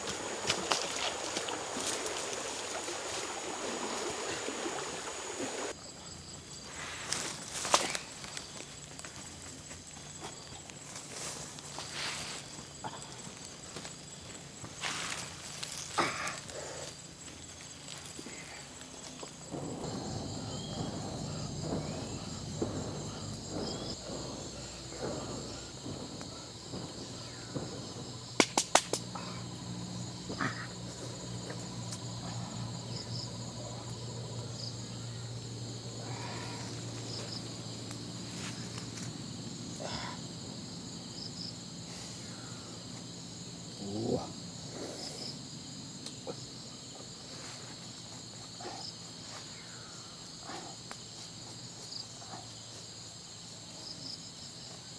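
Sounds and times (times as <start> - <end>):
crickets and insects buzzing: 0.0 - 54.9.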